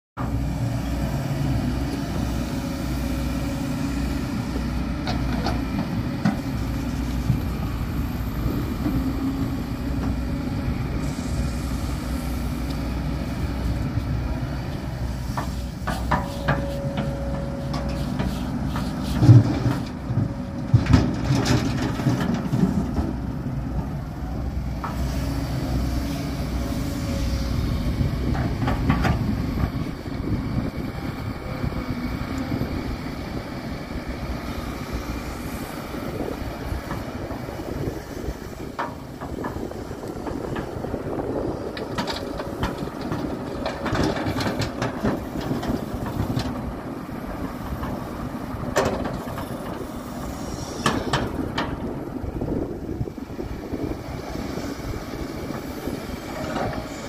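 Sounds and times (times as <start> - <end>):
excavator diesel engine running: 0.2 - 57.0.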